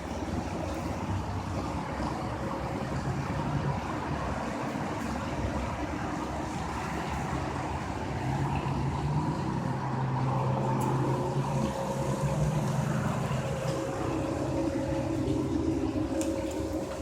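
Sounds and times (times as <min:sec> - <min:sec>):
low droning hum from sky: 0:00.0 - 0:17.0
rushing background noise: 0:00.0 - 0:17.0.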